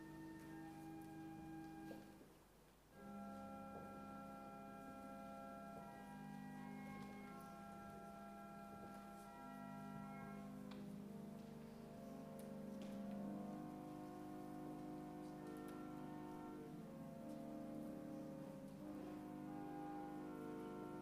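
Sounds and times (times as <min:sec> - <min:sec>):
church organ playing held chords: 0:00.0 - 0:02.1, 0:02.9 - 0:21.0.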